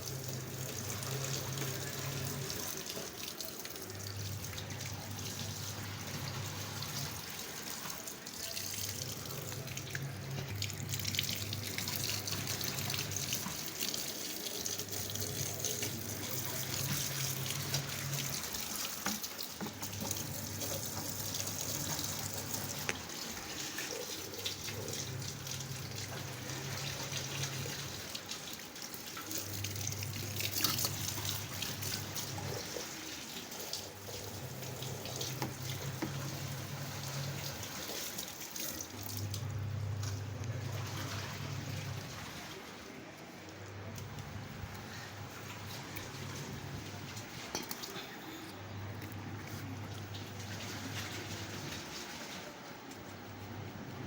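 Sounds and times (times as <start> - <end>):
water running from a tap: 0.0 - 48.2.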